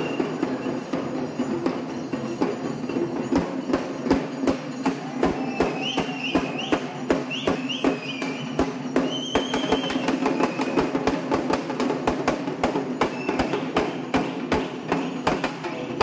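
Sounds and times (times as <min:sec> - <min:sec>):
drum band playing fast: 0:00.0 - 0:16.0.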